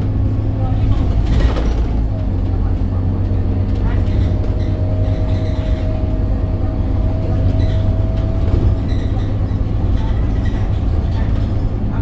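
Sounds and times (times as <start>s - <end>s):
bus diesel engine droning: 0.0s - 12.0s.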